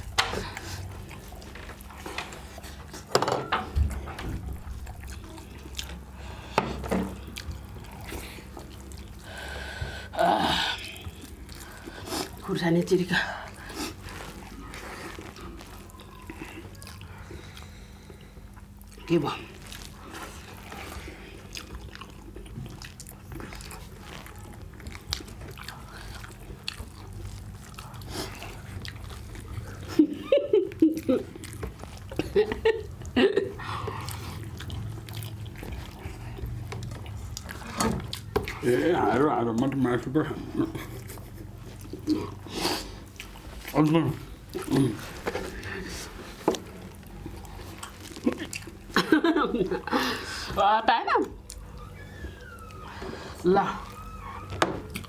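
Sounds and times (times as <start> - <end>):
people chewing food: 0.0 - 55.0
wet eating sounds: 0.0 - 55.0.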